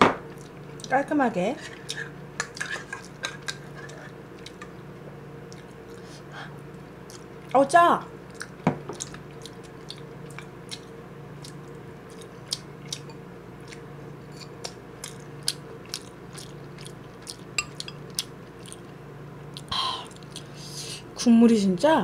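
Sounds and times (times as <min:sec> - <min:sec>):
chewing and wet mouth sounds: 0:00.3 - 0:01.0, 0:01.7 - 0:04.8, 0:05.4 - 0:07.6, 0:08.2 - 0:20.7.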